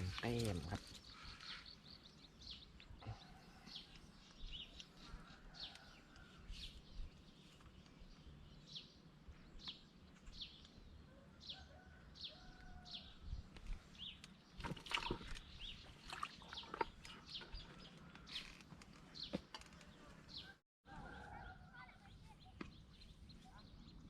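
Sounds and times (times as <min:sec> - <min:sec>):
bird chirping: 0:00.0 - 0:11.6, 0:12.3 - 0:20.5.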